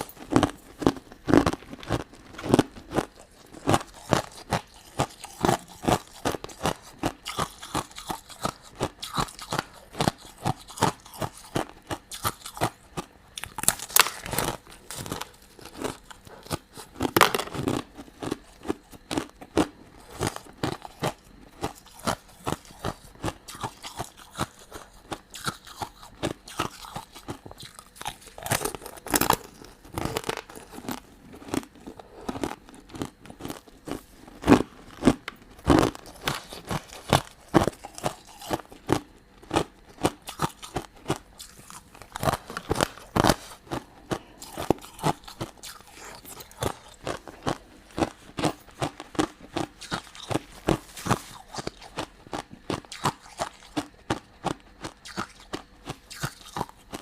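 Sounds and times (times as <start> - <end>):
chewing crunchy candy: 0.0 - 57.0.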